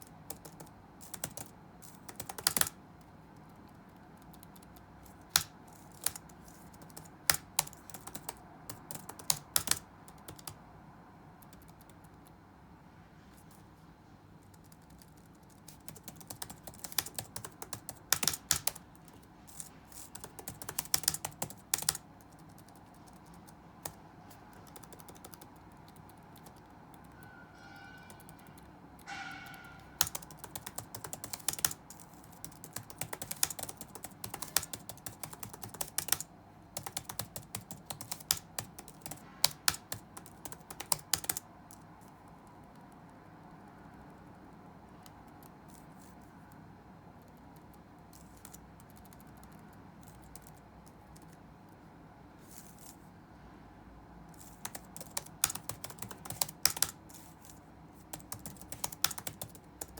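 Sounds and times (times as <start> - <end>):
typing on computer keyboard: 0.0 - 10.6, 11.3 - 12.4, 14.4 - 44.4, 45.0 - 46.1, 47.2 - 51.4, 54.3 - 59.9.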